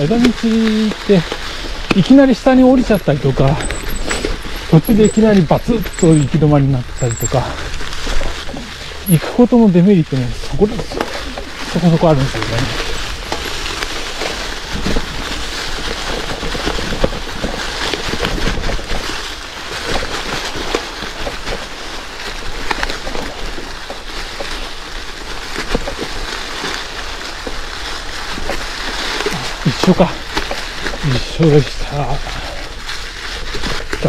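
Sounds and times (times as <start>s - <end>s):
stones crunching and rattling: 0.0s - 34.0s
tyre and wind noise: 0.0s - 34.0s.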